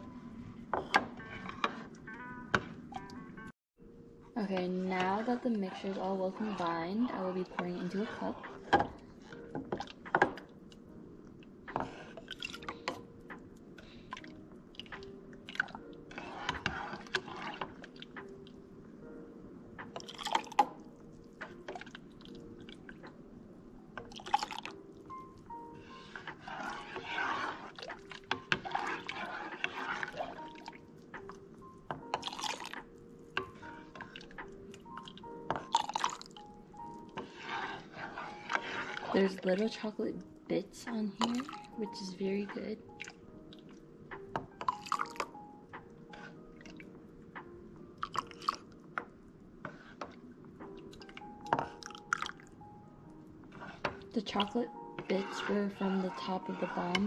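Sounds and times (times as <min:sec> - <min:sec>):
hot chocolate sloshing in saucepan: 0:04.4 - 0:10.5, 0:11.7 - 0:13.1, 0:13.8 - 0:18.5, 0:20.0 - 0:23.1, 0:23.9 - 0:43.8, 0:44.4 - 0:47.0, 0:48.0 - 0:57.0.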